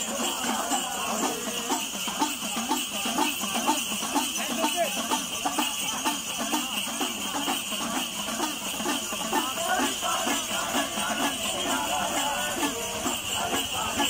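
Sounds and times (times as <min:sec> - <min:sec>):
bells jingling: 0:00.0 - 0:14.0
men chanting devotional song: 0:00.0 - 0:14.0.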